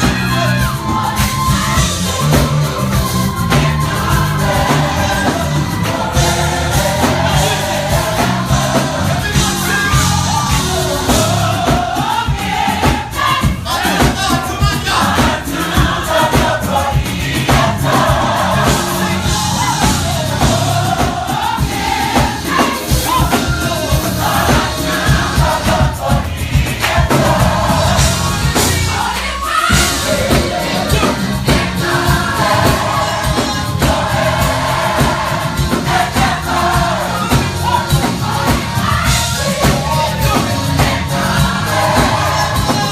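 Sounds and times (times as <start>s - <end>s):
gospel choir singing: 0.0s - 42.9s
live band with drums and bass: 0.0s - 42.9s.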